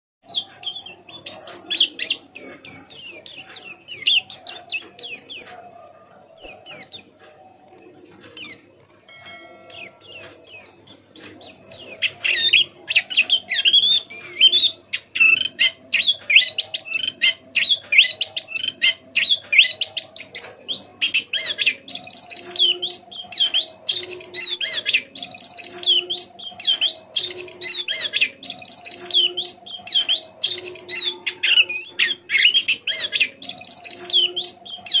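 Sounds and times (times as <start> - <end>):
bird twittering song: 0.2 - 7.6, 8.2 - 35.0.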